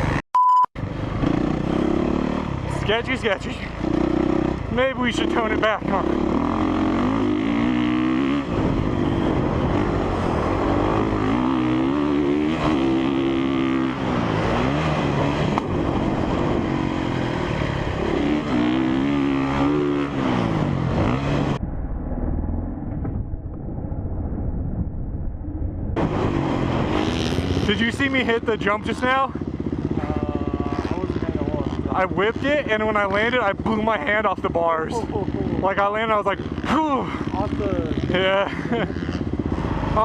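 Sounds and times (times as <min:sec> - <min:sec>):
motorcycle engine revving: 0:00.8 - 0:40.0.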